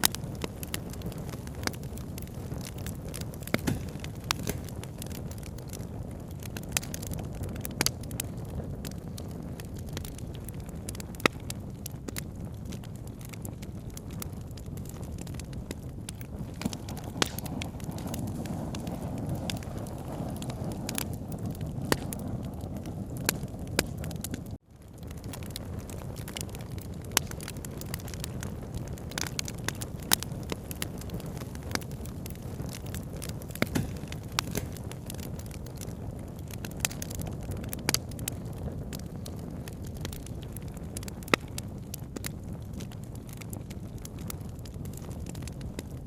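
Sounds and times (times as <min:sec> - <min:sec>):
campfire crackling: 0:00.0 - 0:46.0
wood popping: 0:00.0 - 0:46.0.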